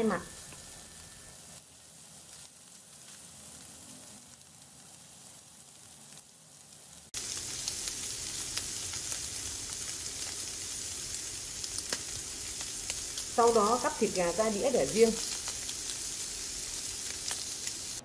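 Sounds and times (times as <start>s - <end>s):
chicken sizzling in hot oil: 0.0s - 18.0s
oil crackling: 0.0s - 18.0s.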